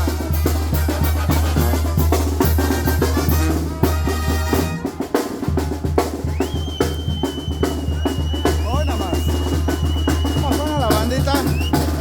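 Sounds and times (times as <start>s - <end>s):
bass drum and snare beating: 0.0s - 12.0s
brass band playing: 0.0s - 12.0s.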